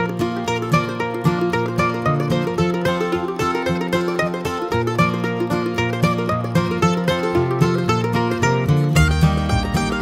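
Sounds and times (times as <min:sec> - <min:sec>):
upbeat plucked string music: 0:00.0 - 0:10.0.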